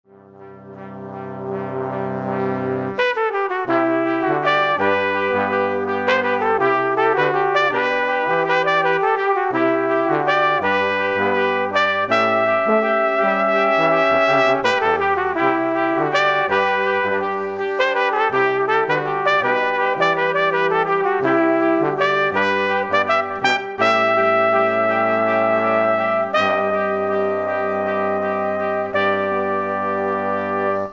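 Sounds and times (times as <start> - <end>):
brass instrumental music: 0.0 - 30.9.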